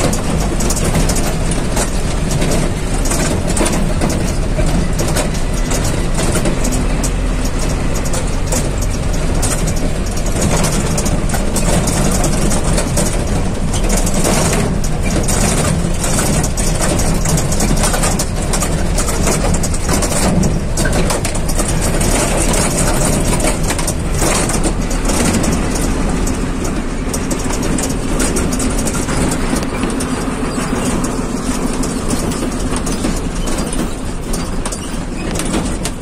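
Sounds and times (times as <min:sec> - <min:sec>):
short rattles: 0:00.0 - 0:36.0
vehicle engine and road noise: 0:00.0 - 0:36.0.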